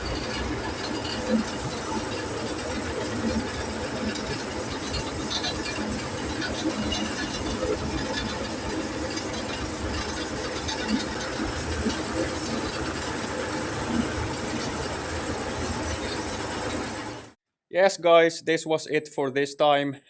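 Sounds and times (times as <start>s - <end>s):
irregular rattles and knocks: 0.0s - 17.3s
engine running: 0.0s - 17.4s.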